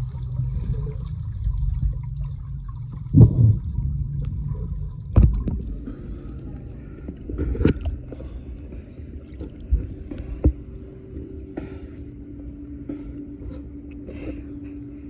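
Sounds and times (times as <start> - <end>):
steady low rumble: 0.0 - 15.0
water sloshing and gurgling: 0.0 - 15.0.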